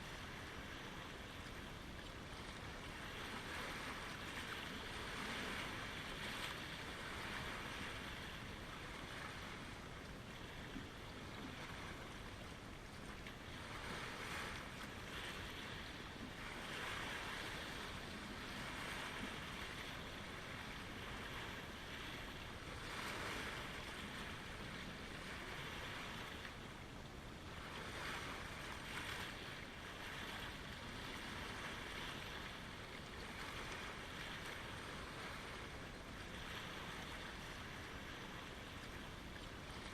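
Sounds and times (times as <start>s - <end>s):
low rumble of wind: 0.0s - 39.9s
waves lapping at shoreline: 0.0s - 39.9s.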